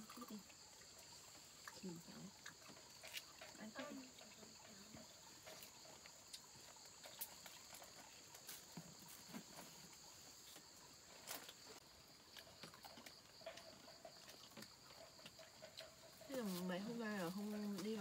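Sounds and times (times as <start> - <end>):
faint insect chirring: 0.0 - 18.0.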